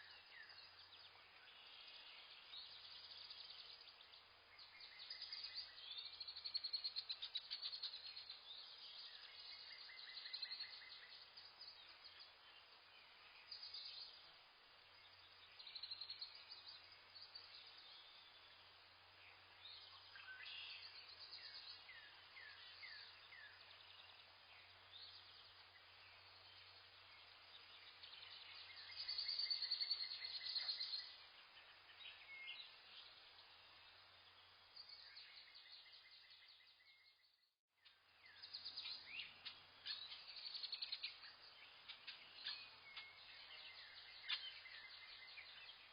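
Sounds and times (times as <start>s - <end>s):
birds chirping and trilling: 0.0s - 45.9s.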